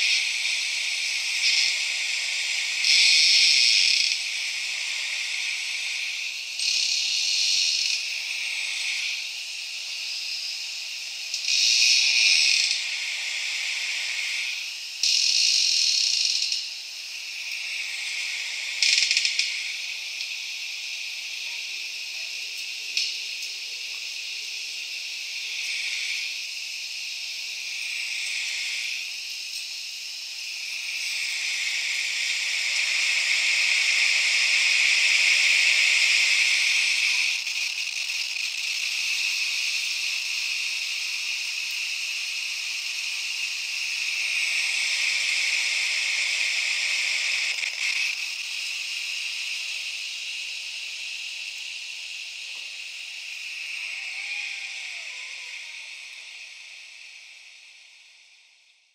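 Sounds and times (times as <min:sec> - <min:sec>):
high hissing insect-like texture: 0:00.0 - 0:58.9.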